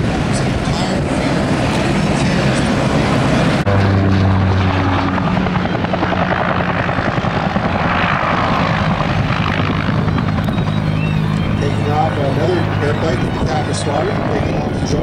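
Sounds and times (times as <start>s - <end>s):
helicopter rotor beating: 0.0s - 15.0s.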